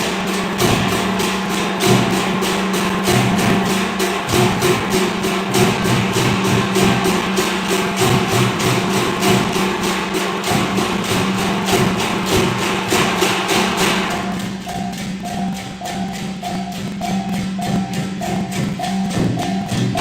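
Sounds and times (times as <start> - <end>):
background music with clicking beat: 0.0 - 20.0.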